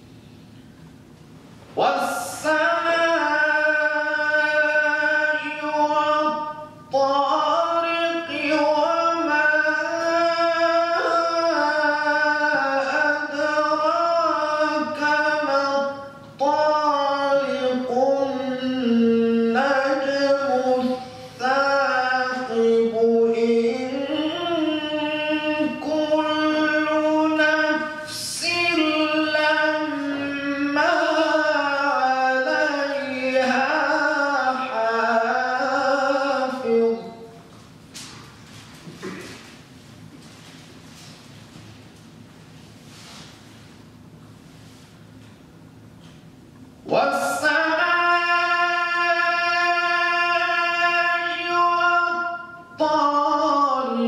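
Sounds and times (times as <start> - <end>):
man chanting melodically: 1.7 - 38.2, 46.8 - 54.0.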